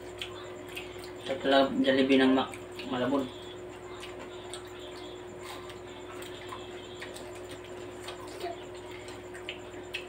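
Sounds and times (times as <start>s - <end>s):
people chewing crispy food: 0.0s - 10.0s
steady hum: 0.0s - 10.0s.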